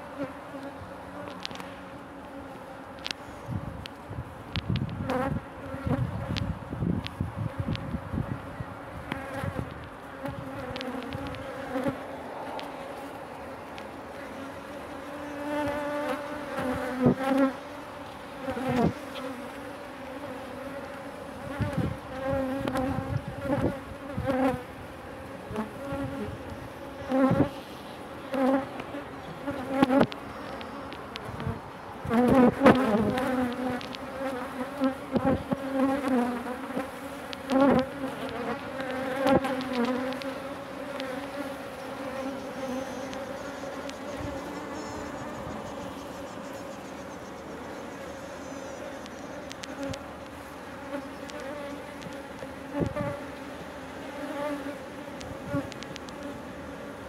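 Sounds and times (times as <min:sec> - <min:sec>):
honeybees buzzing: 0:00.0 - 0:57.0.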